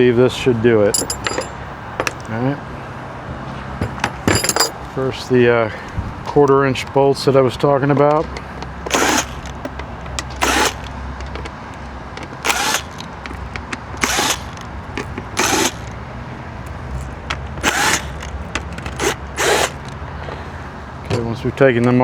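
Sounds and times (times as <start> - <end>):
power driver running: 1.0 - 3.2, 3.8 - 22.0.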